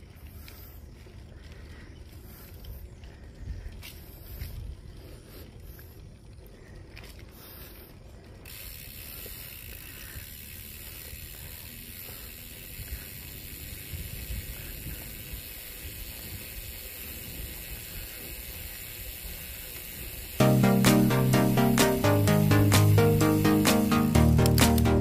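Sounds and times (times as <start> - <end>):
wind and tyres rumbling: 0.0 - 20.4
bicycle freewheel clicking: 0.0 - 25.0.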